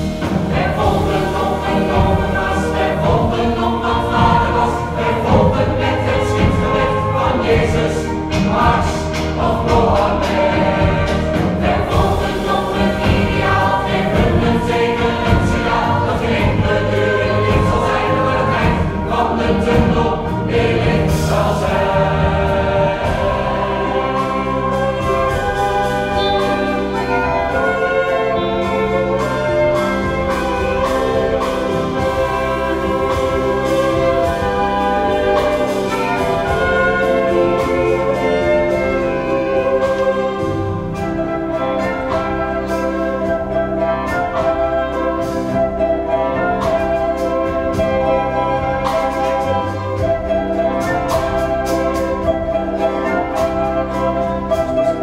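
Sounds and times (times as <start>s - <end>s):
instrumental accompaniment: 0.0s - 55.0s
mixed choir singing: 0.0s - 55.0s.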